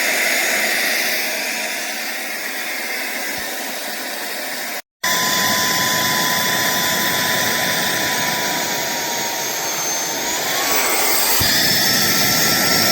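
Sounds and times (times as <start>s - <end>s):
handheld vacuum running: 0.0s - 12.9s.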